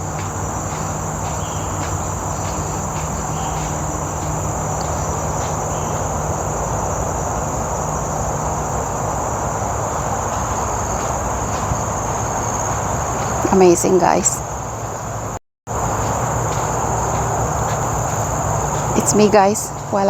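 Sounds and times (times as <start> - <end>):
high-pitched insect drone: 0.0 - 20.0
low rumble of traffic: 0.0 - 20.0.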